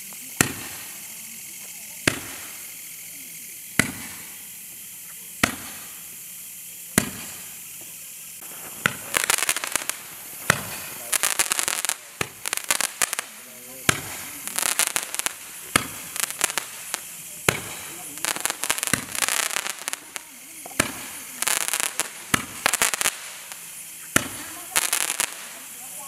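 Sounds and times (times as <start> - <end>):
firework sparks crackling: 0.0 - 26.0
roman candle shots: 0.0 - 26.0.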